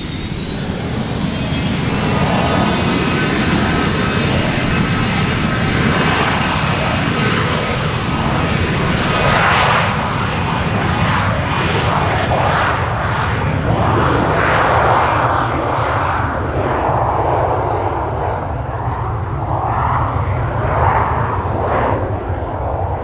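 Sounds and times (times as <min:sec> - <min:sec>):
jet taking off: 0:00.0 - 0:23.0.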